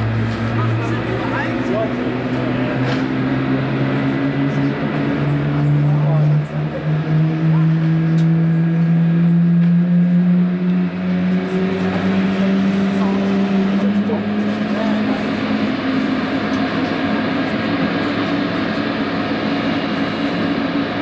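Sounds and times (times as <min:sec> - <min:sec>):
jet aircraft drone: 0:00.0 - 0:21.0.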